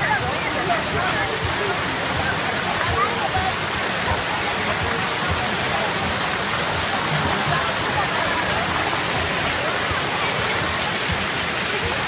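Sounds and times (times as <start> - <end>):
background voices: 0.0 - 12.0
fountain jets splashing: 0.0 - 12.0.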